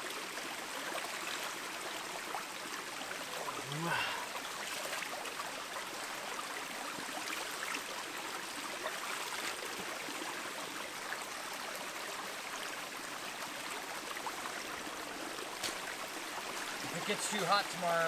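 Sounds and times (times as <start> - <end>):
creek babbling over stones: 0.0 - 18.0.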